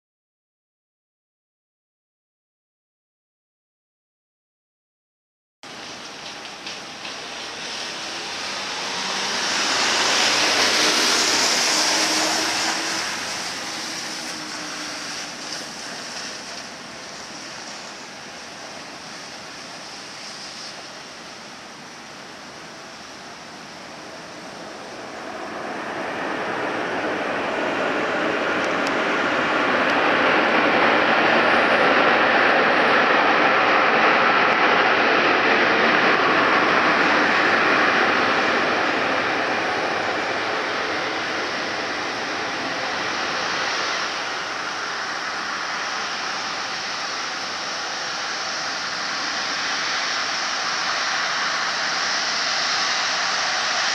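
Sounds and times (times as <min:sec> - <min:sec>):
hiss: 0:05.7 - 0:53.9
jet engines and spray rushing: 0:05.7 - 0:53.9.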